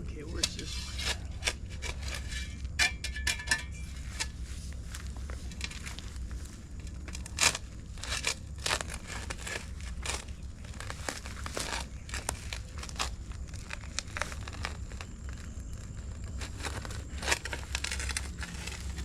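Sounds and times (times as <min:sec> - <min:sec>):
digging in soil by hand: 0:00.0 - 0:19.0
steady low hum: 0:00.0 - 0:19.0.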